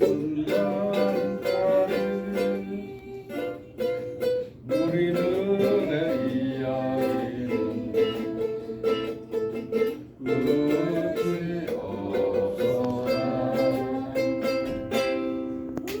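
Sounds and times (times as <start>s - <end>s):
strummed ukulele music: 0.0s - 16.0s.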